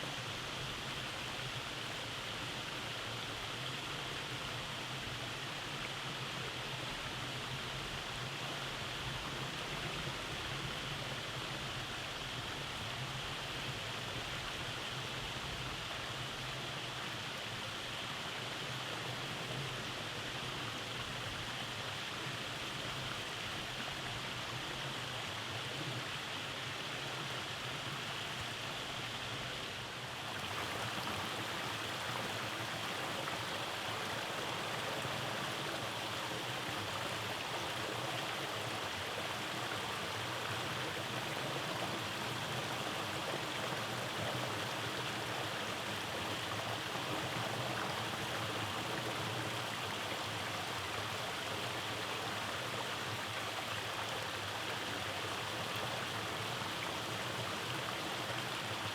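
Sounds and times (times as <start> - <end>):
stream water rushing over rocks: 0.0 - 58.9.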